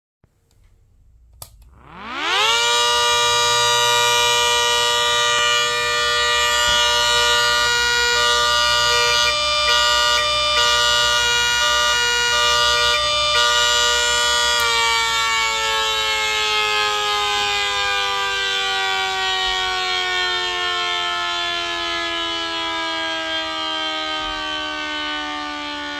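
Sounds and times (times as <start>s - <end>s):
siren wailing: 1.7s - 25.9s.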